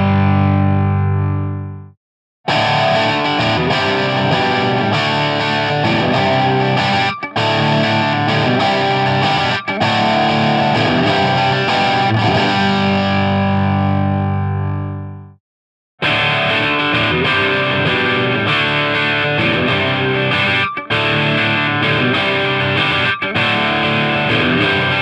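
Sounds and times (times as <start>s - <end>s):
distorted electric guitar riff: 0.0s - 1.8s, 2.5s - 15.3s, 16.0s - 25.0s.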